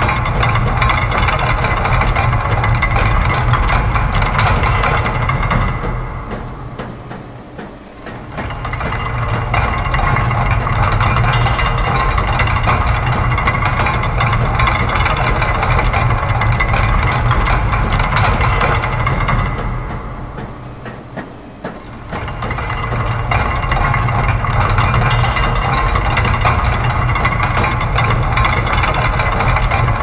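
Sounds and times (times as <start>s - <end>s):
machine clicks and ticks: 0.0s - 30.0s
steady low hum: 0.0s - 30.0s.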